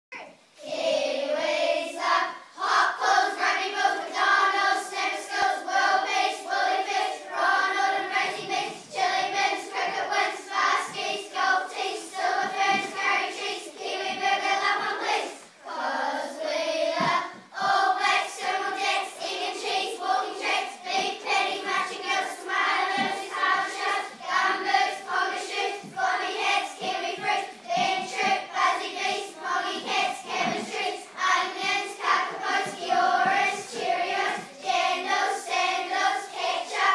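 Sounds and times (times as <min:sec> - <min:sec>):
children singing as a choir: 0:00.2 - 0:36.9.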